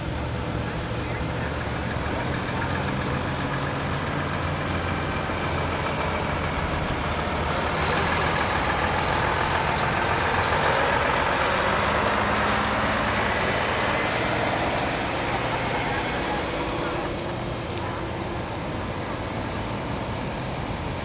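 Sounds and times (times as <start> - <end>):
diesel truck engine passing: 0.0 - 21.0.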